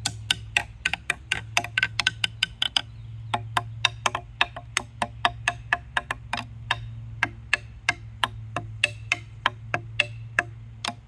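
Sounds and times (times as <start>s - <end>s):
wooden xylophone knocks: 0.0s - 11.0s.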